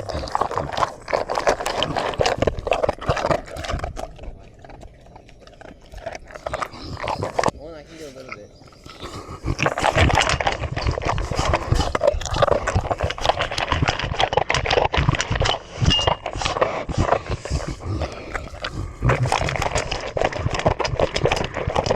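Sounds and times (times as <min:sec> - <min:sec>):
dog chewing and munching: 0:00.0 - 0:21.9.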